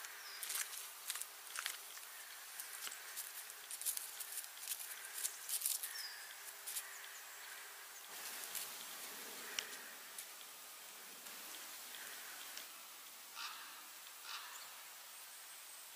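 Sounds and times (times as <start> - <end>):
crackling in dry leaf litter: 0.0 - 14.4.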